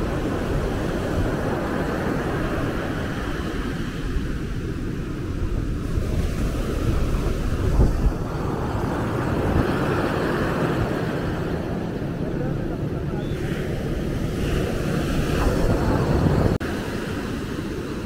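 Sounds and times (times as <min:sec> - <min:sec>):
wind noise on microphone: 0:00.0 - 0:12.1, 0:13.2 - 0:18.0
surf breaking on sand: 0:00.0 - 0:18.0.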